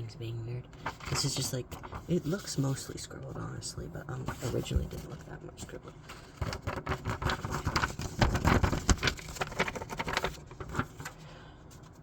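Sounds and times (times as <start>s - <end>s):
paper crackling: 0.7s - 12.0s.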